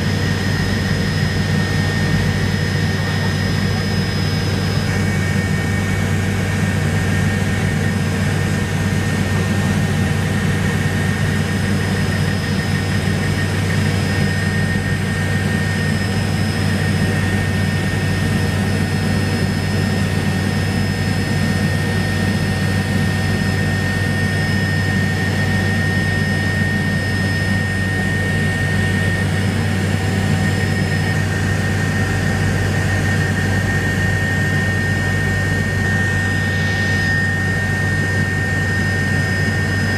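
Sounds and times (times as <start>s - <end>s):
helicopter engine and rotor drone: 0.0s - 39.9s
thin high whine: 0.0s - 39.9s.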